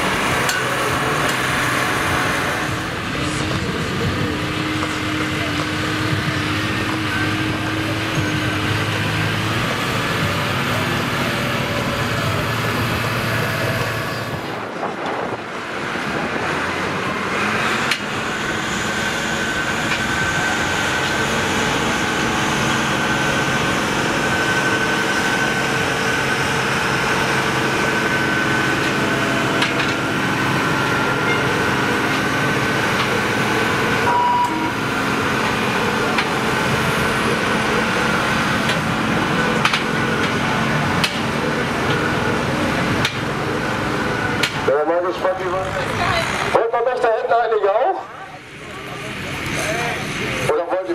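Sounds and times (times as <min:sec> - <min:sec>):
high whine: 0:00.0 - 0:50.9
tractor diesel engine under load: 0:00.0 - 0:50.9.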